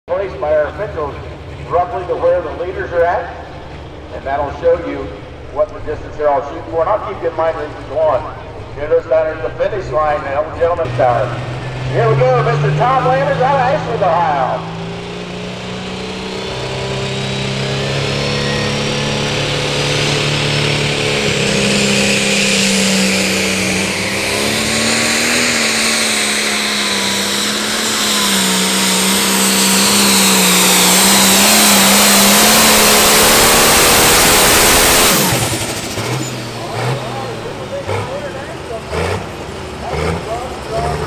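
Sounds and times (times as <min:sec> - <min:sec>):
diesel engine running flat out: 0:00.1 - 0:41.0
high turbo whine: 0:00.1 - 0:41.0.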